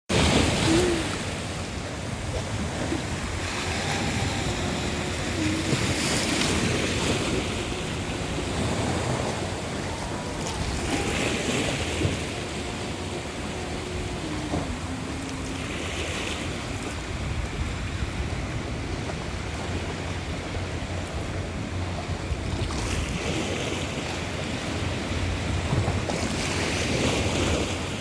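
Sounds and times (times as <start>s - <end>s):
sea waves washing onto shore: 0.1s - 28.0s
wind rumbling on microphone: 0.1s - 28.0s.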